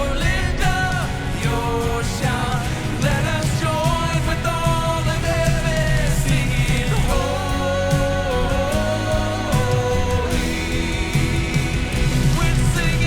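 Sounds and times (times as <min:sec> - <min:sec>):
voices singing a melody: 0:00.0 - 0:13.0
worship band playing: 0:00.0 - 0:13.0.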